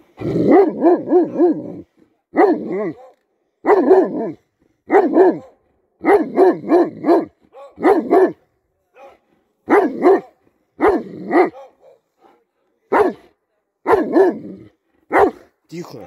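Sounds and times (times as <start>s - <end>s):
dog barking: 0.4s - 14.5s, 15.1s - 15.5s.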